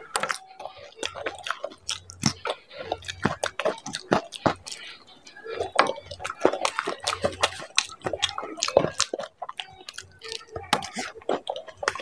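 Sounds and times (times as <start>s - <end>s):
mouth smacking clicks: 0.0s - 12.0s
wet chewing: 0.0s - 12.0s.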